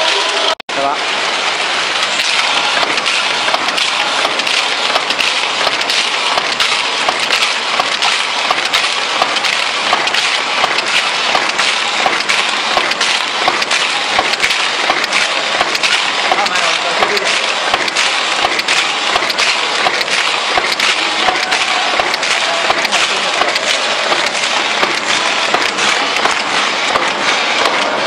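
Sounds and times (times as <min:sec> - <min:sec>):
cartoning machine clattering: 0:01.2 - 0:28.0.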